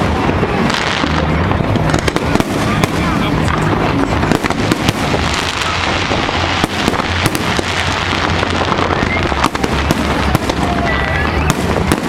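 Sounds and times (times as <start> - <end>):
fireworks bursting: 0.0 - 12.0
sharp firework bangs: 0.0 - 12.0.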